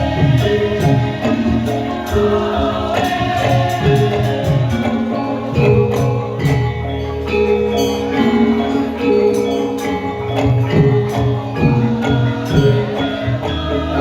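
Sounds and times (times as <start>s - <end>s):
ringing metal mallet instruments: 0.0s - 14.0s.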